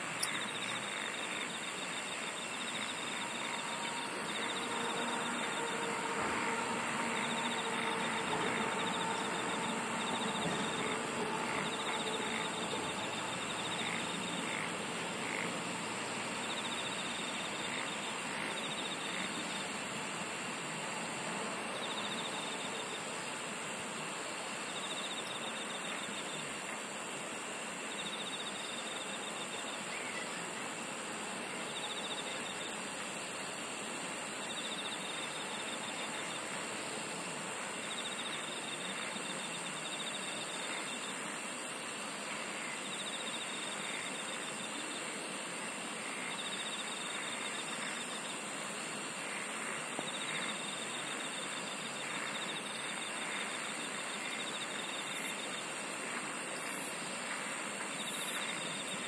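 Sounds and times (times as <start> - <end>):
insects singing in chorus: 0.0 - 59.0
very high insect trill: 0.0 - 59.0.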